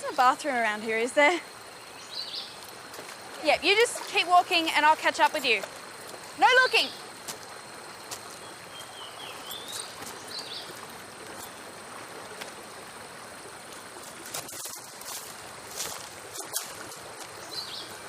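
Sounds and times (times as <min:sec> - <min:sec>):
steady rushing like a stream: 0:00.0 - 0:18.0.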